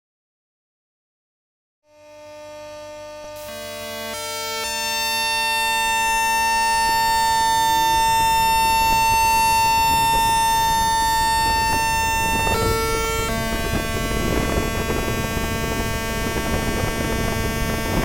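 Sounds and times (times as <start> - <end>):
electric chopper high whine: 1.9 - 18.0
rough electrical rail noise: 2.0 - 18.0.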